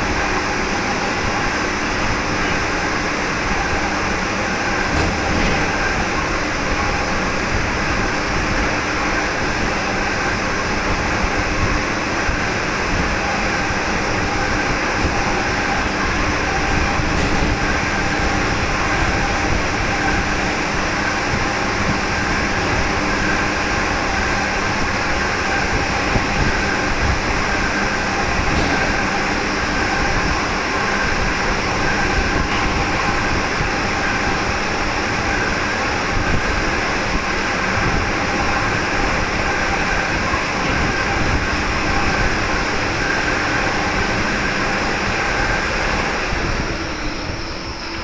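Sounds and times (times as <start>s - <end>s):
machinery rumbling: 0.0s - 10.1s, 10.9s - 47.7s.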